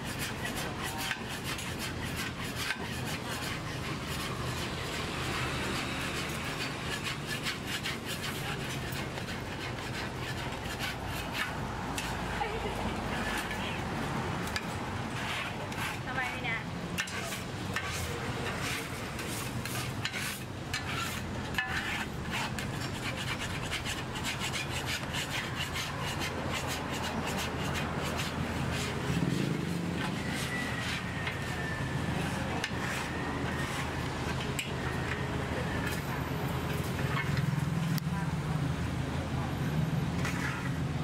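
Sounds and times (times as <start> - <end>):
metal scraper on steel griddle: 0.0 - 38.0, 40.2 - 40.9.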